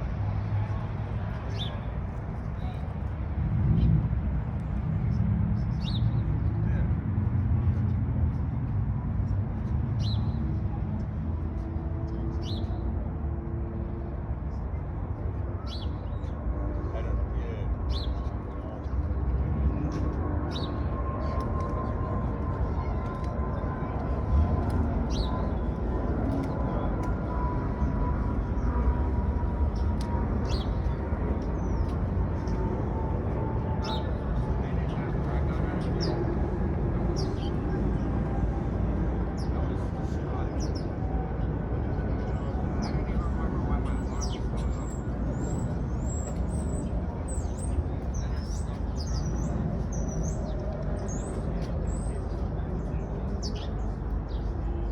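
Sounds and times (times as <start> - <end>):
low outdoor rumble: 0.0 - 54.9.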